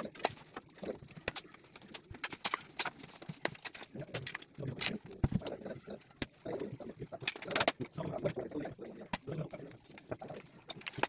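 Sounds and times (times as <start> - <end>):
hand tools clicking and scraping: 0.0 - 11.0.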